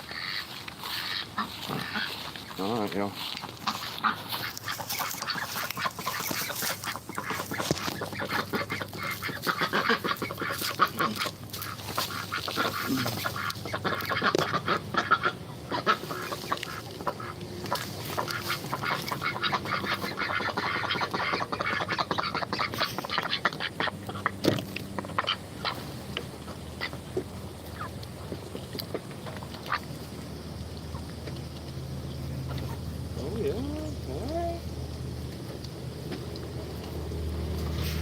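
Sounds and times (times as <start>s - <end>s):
ducks quacking: 0.0s - 35.0s.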